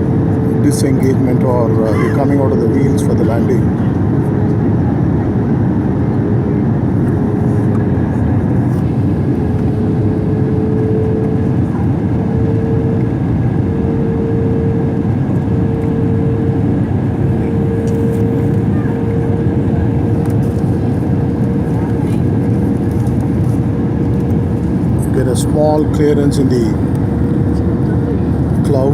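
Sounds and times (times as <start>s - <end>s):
jet engines and rushing air: 0.0s - 28.9s.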